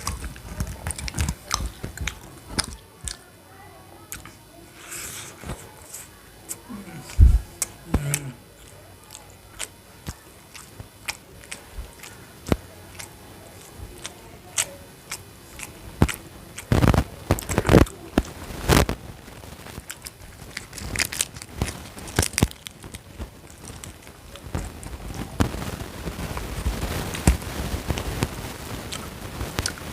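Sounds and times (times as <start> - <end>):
person chewing and crunching food: 0.0 - 3.3, 4.1 - 29.9.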